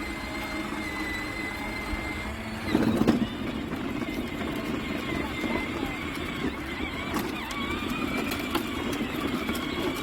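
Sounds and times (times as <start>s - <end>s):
toy tractor motor whining: 0.0s - 10.0s.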